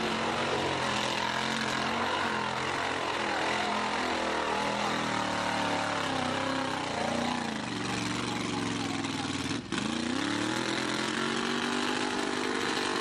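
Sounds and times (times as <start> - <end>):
engine running at high revs: 0.0 - 13.0.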